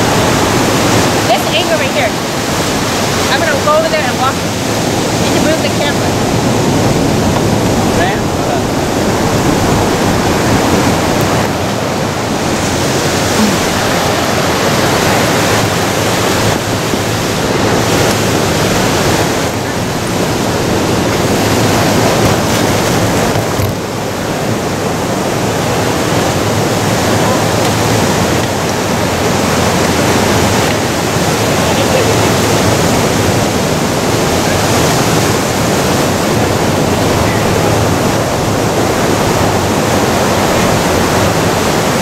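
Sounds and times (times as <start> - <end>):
ocean surf breaking over rocks: 0.0 - 42.0.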